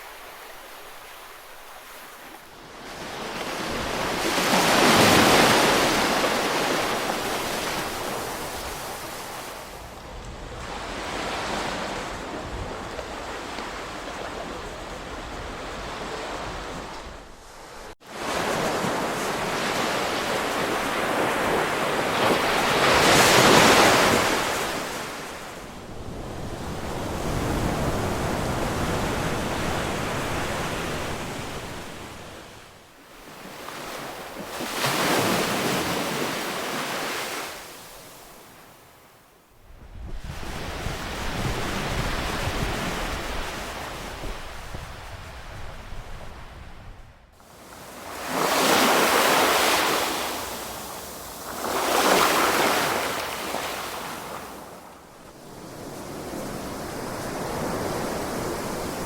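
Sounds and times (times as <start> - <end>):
ocean waves breaking: 0.0 - 38.9, 47.4 - 59.0.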